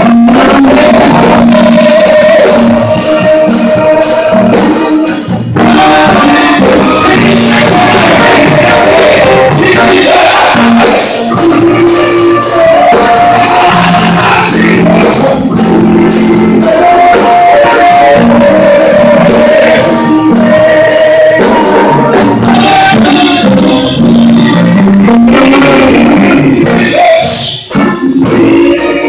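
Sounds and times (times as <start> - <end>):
instrumental accompaniment: 0.0 - 29.0
man singing into a microphone: 0.0 - 29.0.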